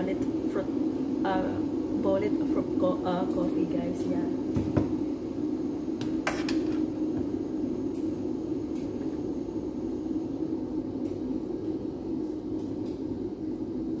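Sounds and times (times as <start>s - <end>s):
low kitchen hum: 0.0s - 14.0s.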